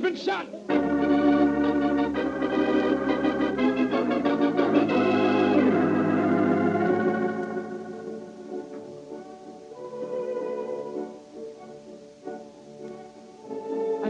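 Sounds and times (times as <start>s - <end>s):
dramatic organ chords: 0.0s - 13.1s.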